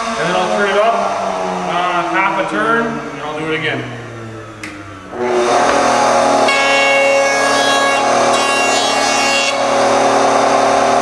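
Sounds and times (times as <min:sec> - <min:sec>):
router whining: 0:00.0 - 0:11.0.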